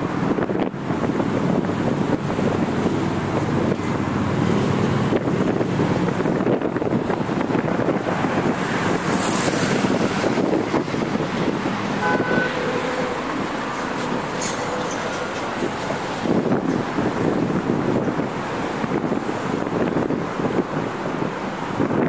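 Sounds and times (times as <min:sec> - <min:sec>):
highway traffic noise: 0:00.0 - 0:22.0
wind buffeting microphone: 0:00.0 - 0:22.0.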